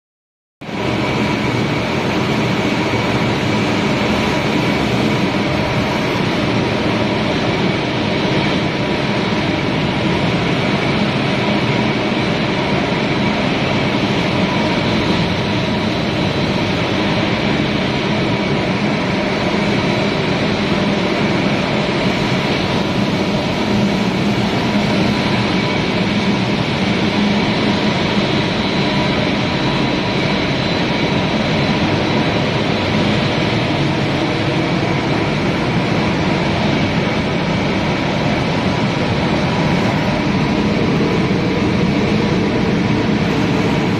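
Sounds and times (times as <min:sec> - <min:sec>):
machine drone with whining tones: 0:00.6 - 0:43.9.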